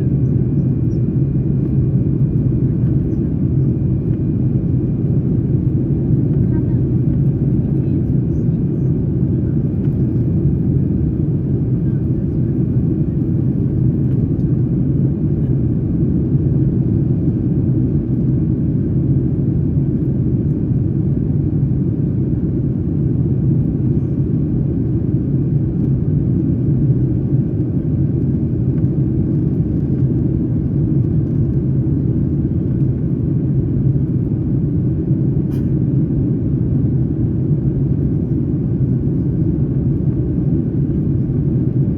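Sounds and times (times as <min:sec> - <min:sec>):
airliner cabin rumble: 0:00.0 - 0:41.9.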